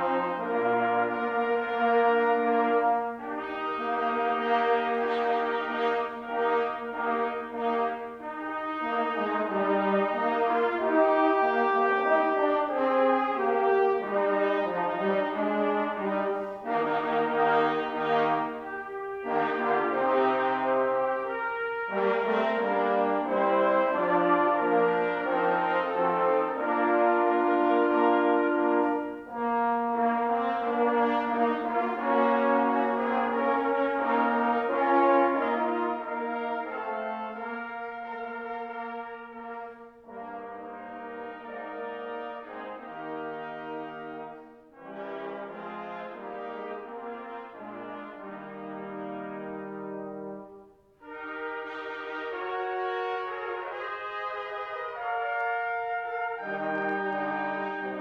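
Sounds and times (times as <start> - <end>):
brass instruments playing chords: 0.0 - 58.0.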